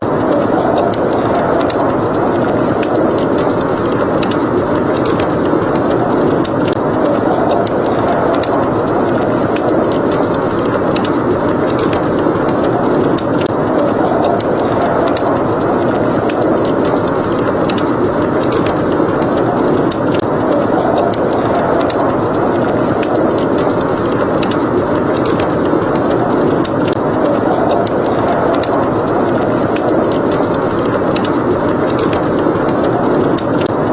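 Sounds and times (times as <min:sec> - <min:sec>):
blizzard wind: 0:00.0 - 0:33.9
wood fire crackling: 0:00.0 - 0:33.9.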